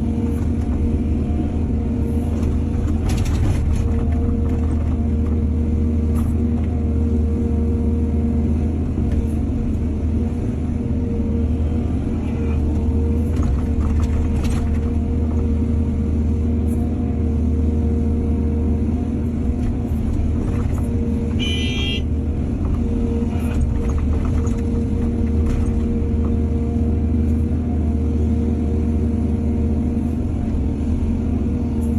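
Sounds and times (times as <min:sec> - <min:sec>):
heavy machinery diesel engine droning: 0:00.0 - 0:31.9.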